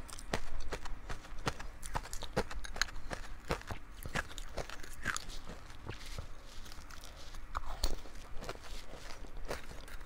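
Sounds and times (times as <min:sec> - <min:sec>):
ice being crunched and chewed: 0:00.0 - 0:10.0.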